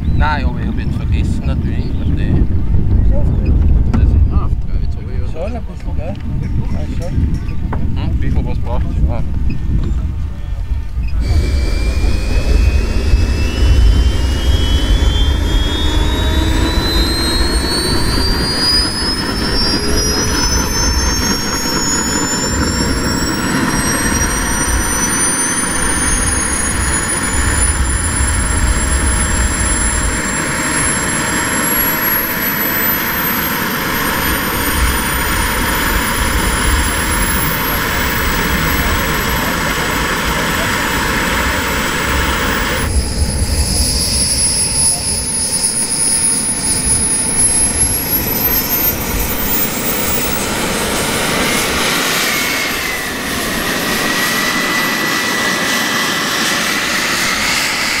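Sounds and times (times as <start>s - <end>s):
jet engines whining: 0.0s - 58.0s
steady low rush: 0.0s - 58.0s.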